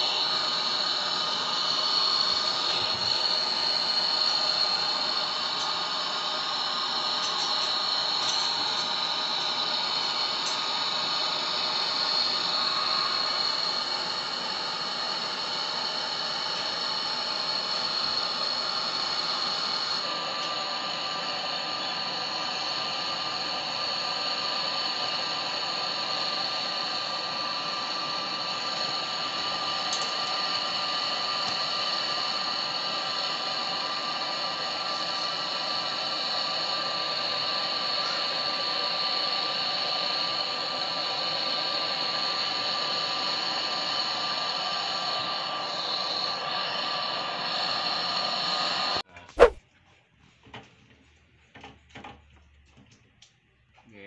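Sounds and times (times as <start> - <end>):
faint steady whine: 0.0 - 49.6
gas torch hissing: 0.0 - 49.6.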